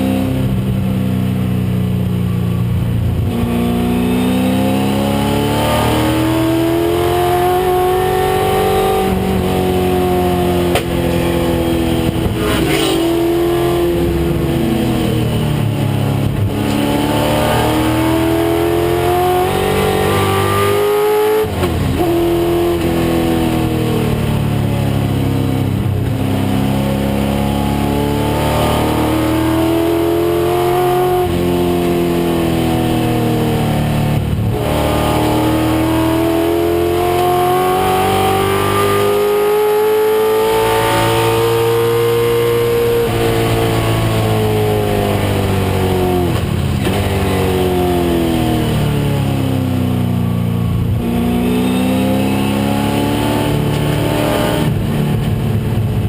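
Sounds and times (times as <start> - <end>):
race car engine accelerating: 3.1 - 56.0.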